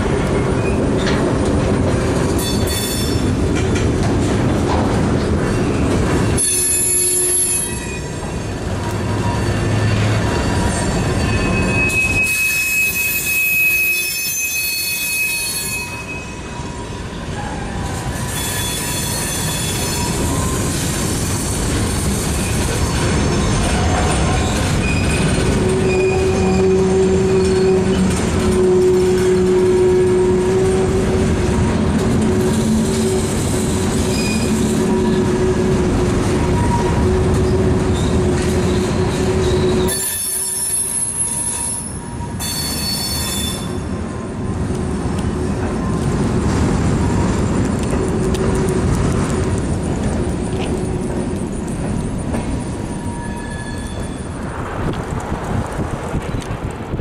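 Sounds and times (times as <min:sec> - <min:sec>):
train wheels rumbling on rails: 0:00.0 - 0:57.0
wheels squealing against rail: 0:00.3 - 0:01.3, 0:02.0 - 0:03.6, 0:05.2 - 0:44.0, 0:49.3 - 0:54.7.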